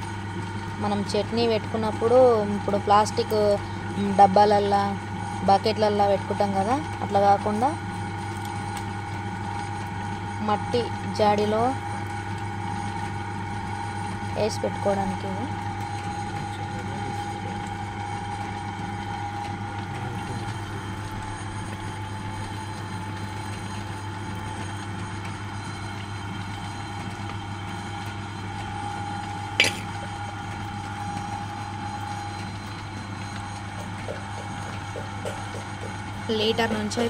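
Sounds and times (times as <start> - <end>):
potter's wheel humming: 0.0 - 37.0.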